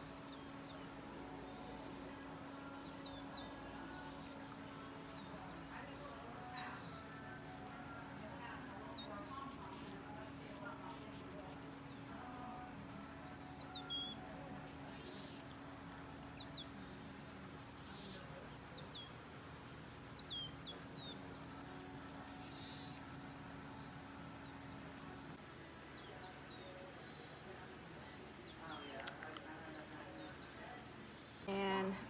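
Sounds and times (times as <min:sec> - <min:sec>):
marmosets chirping and whistling: 0:00.0 - 0:31.5
faint steady hum: 0:00.0 - 0:32.0.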